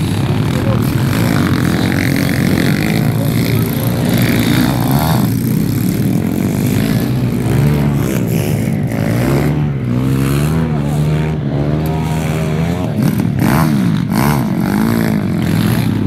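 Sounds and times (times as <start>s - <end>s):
small motorcycle engines revving: 0.0s - 16.0s.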